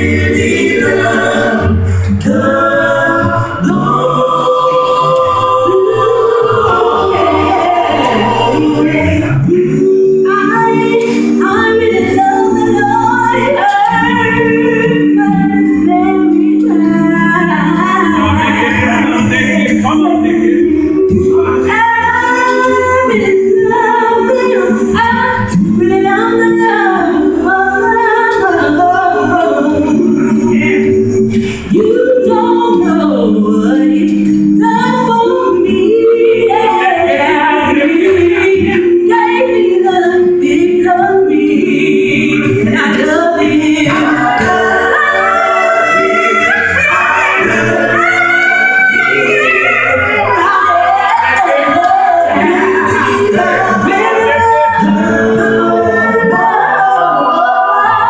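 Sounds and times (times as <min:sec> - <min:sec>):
gospel group singing a cappella: 0:00.0 - 0:58.0.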